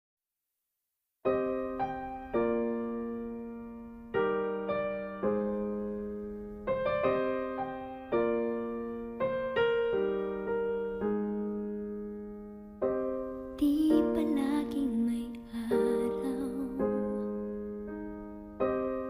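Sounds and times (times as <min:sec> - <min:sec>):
slow piano chords: 0:01.3 - 0:19.0.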